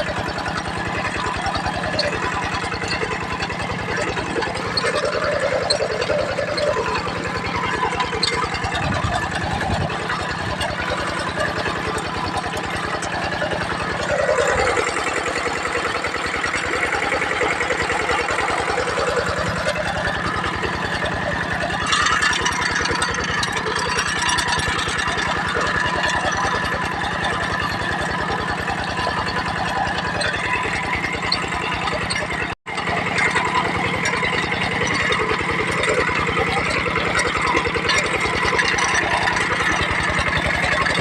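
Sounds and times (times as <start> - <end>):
tractor engine chugging: 0.0 - 41.0.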